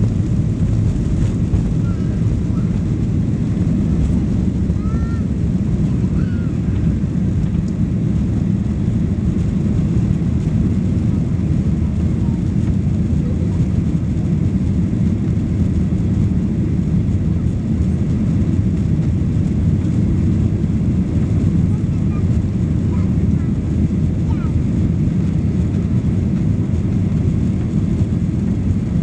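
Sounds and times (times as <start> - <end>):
jet engines rumbling during takeoff: 0.0 - 29.0.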